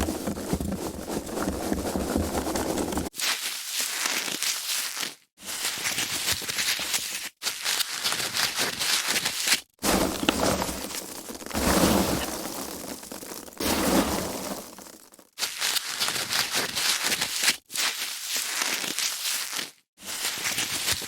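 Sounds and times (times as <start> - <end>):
foam packaging crackling: 0.0 - 5.2, 7.4 - 21.0.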